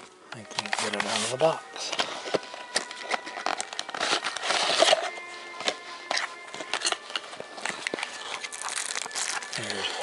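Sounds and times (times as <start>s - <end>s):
packaging rustling: 0.4s - 10.0s.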